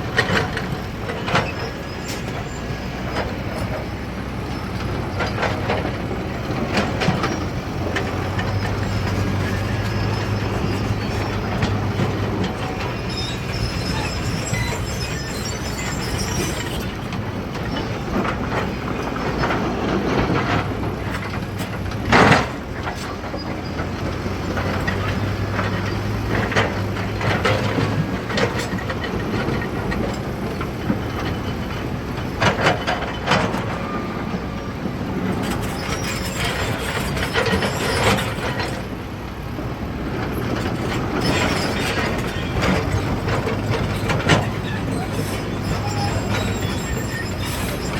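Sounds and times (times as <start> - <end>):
diesel machinery engines running: 0.0 - 47.9.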